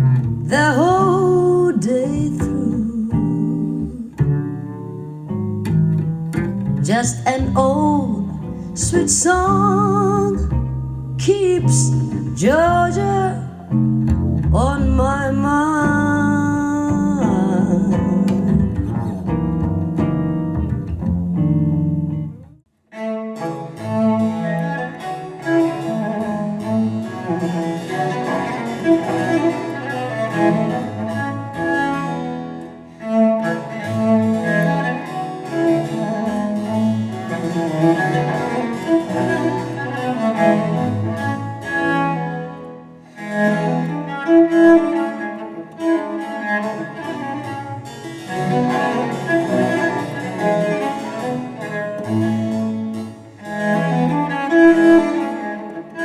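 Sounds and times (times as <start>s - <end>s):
bowed strings music: 0.0s - 56.0s
cello line: 0.0s - 56.0s.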